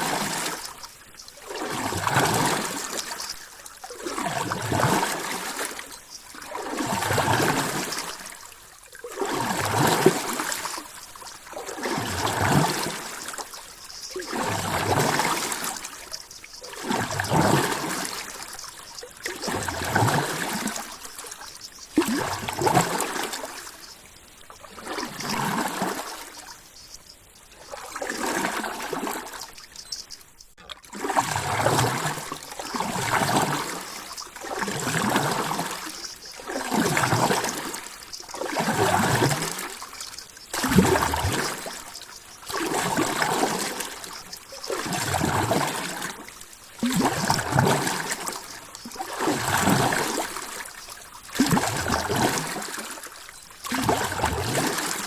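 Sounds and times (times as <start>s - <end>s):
water sloshing in swells: 0.0s - 55.0s.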